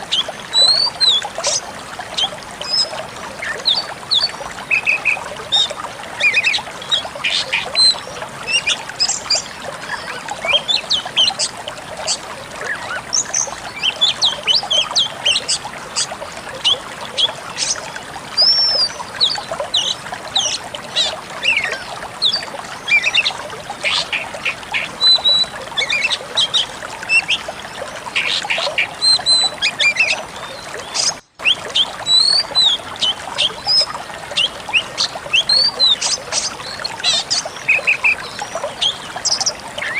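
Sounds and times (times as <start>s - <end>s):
bird chirping and trilling: 0.1s - 1.6s, 2.2s - 39.9s.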